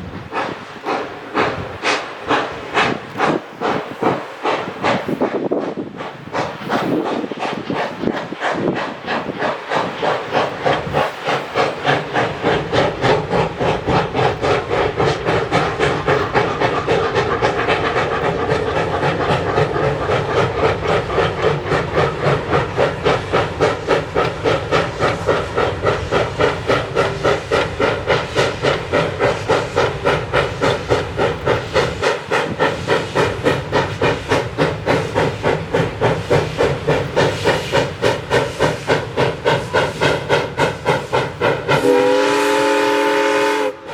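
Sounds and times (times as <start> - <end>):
steam locomotive exhaust chuffing: 0.0 - 43.9.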